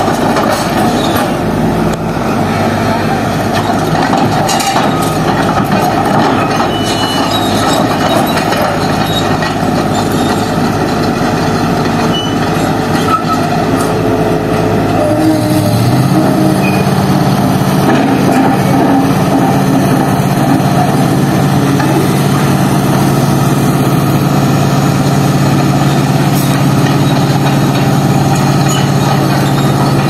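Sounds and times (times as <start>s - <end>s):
diesel engine: 0.0s - 30.0s
machinery clatter and grinding: 0.0s - 30.0s.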